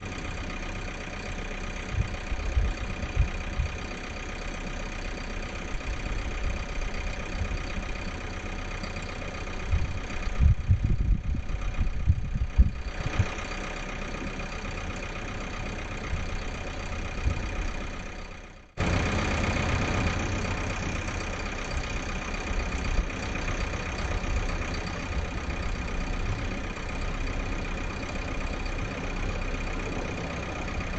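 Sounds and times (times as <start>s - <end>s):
diesel truck engine running: 0.0s - 30.9s.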